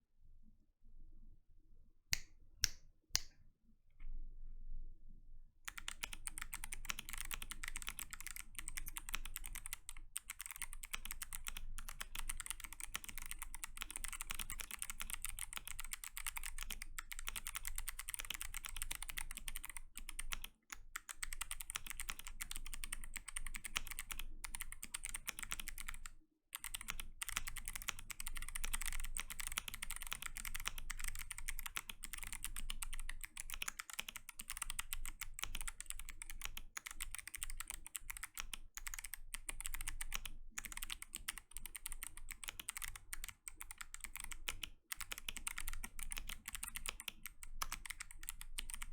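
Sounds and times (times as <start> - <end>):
mechanical keyboard typing: 5.7 - 48.9.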